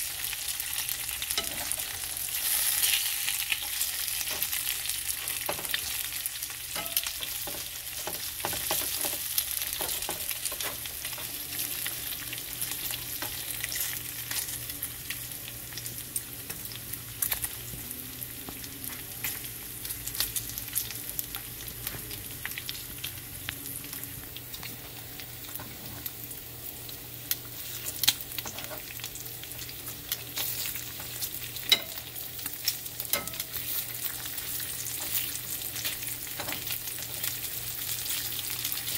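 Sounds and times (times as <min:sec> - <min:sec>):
bacon sizzling in a frying pan: 0:00.0 - 0:38.9.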